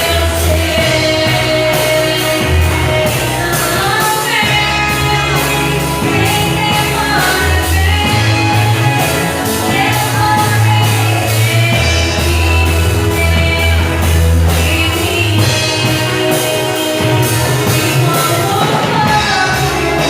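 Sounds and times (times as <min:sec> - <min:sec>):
band playing rock worship song: 0:00.0 - 0:20.0
lead singer: 0:00.0 - 0:20.0.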